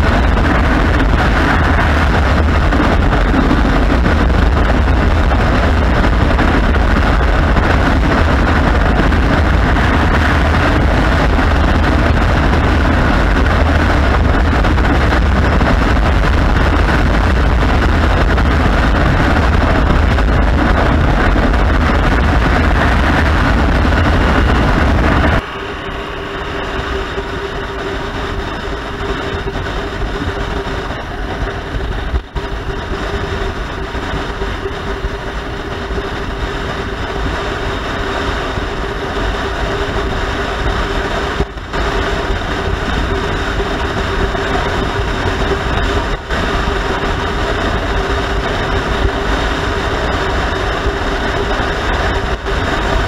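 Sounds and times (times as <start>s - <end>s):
motorcycle engine: 0.0s - 53.0s
rushing wind: 0.0s - 53.0s.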